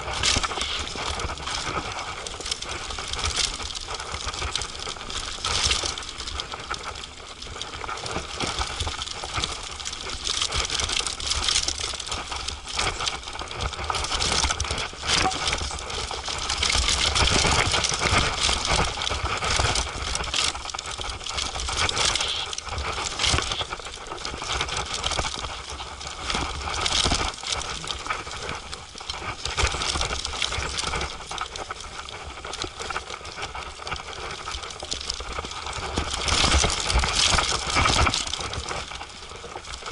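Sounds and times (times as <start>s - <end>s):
mountain bike rattling: 0.0s - 39.9s.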